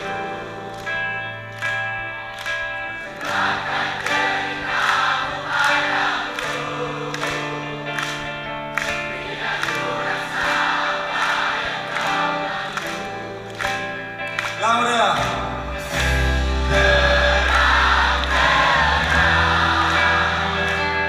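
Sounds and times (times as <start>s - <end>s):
many voices singing: 0.0s - 1.3s, 3.0s - 14.0s, 16.2s - 21.0s
live band playing: 0.0s - 21.0s.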